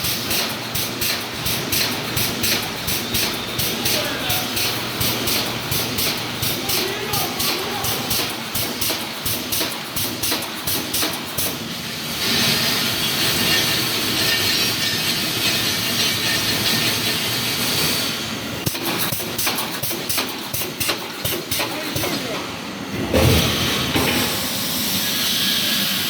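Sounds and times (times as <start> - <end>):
welding machine clacking: 0.0 - 11.6, 12.2 - 18.0, 18.6 - 22.4
machine hiss: 0.0 - 22.1, 23.2 - 26.0.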